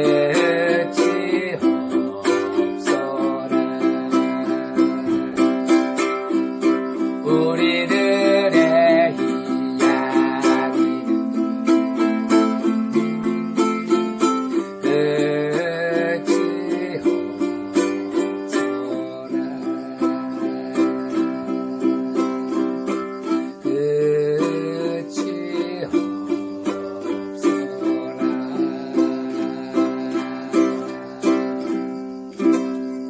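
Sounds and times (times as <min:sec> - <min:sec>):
ukulele playing: 0:00.0 - 0:33.0.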